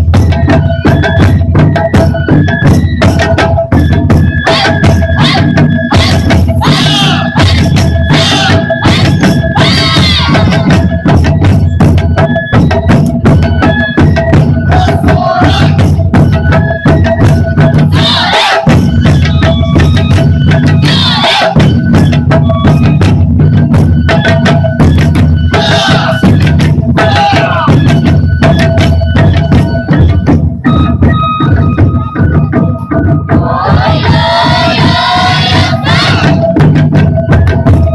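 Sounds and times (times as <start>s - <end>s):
high melody over drums: 0.0s - 37.9s
taiko drum ensemble: 0.0s - 37.9s.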